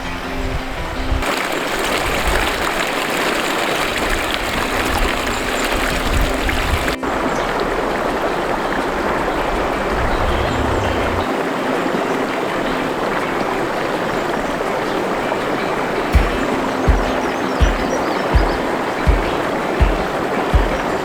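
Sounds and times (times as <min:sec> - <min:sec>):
stream of water running: 0:00.0 - 0:21.0.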